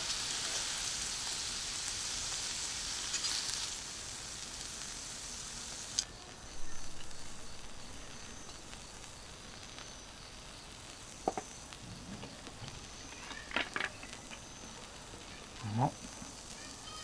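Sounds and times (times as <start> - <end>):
beef sizzling on griddle: 0.0 - 17.0.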